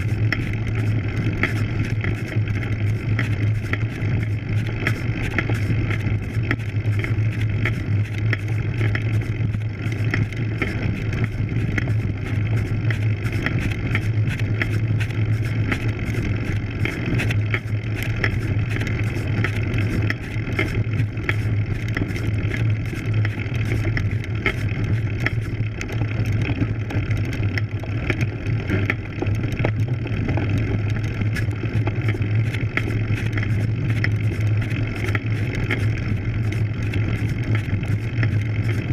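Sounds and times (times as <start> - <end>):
bike tyres rumbling on dirt: 0.0 - 38.9
small clicks and rattles: 0.0 - 38.9.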